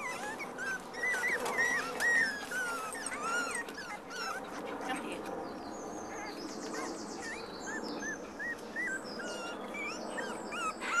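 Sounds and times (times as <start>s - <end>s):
puppies whimpering: 0.0s - 5.3s, 6.0s - 11.0s.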